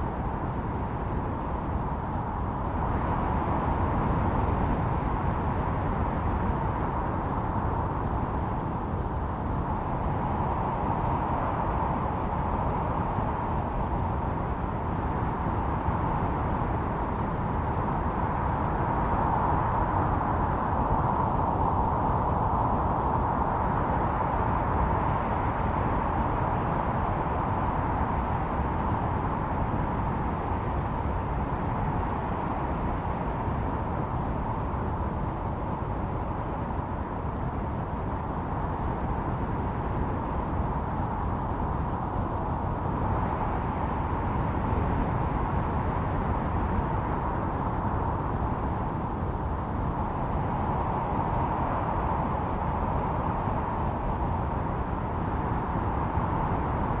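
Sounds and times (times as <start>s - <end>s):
blizzard wind howling: 0.0s - 57.0s.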